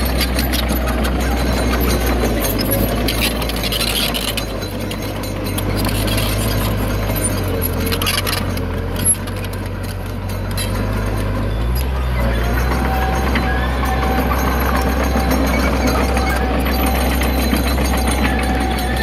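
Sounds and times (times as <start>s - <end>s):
diesel engine droning: 0.0s - 19.0s
rocky soil scraping and clinking: 0.0s - 19.0s.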